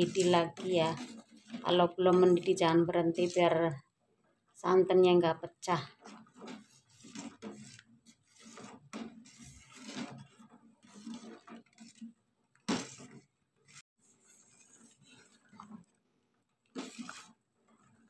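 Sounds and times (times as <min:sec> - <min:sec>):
ladle stirring porridge in pot: 0:00.0 - 0:04.6, 0:05.8 - 0:18.0.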